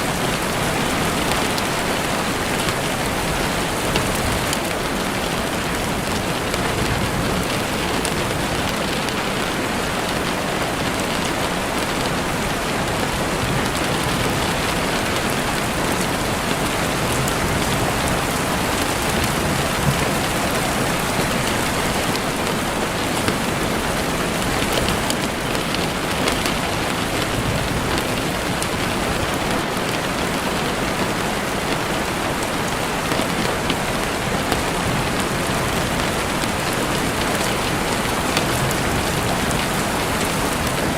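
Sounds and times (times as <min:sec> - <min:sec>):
heavy rain on a window: 0:00.0 - 0:40.9.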